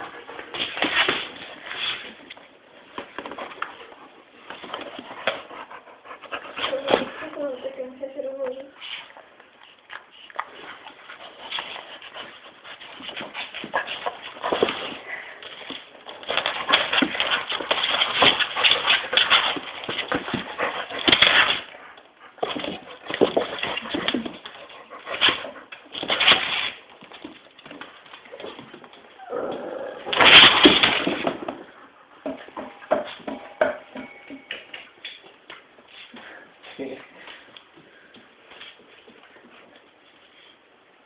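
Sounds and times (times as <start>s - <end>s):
dogs play-fighting: 0.0s - 7.6s, 8.7s - 41.0s.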